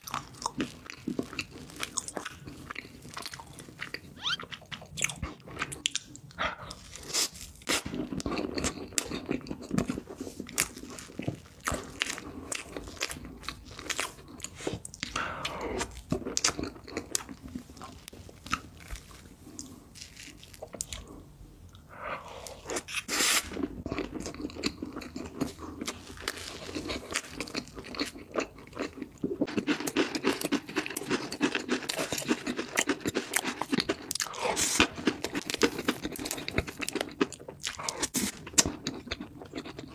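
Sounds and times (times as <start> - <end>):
person chewing cake: 0.0 - 39.9.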